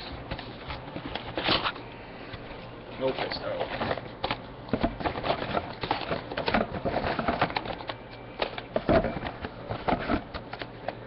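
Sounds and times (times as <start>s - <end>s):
card packaging rustling and clicking: 0.0s - 11.0s.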